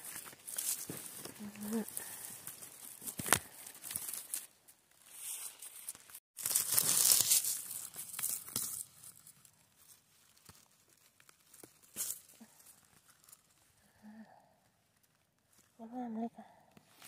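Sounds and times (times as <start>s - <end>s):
dry twigs and leaves rustling: 0.0s - 15.9s.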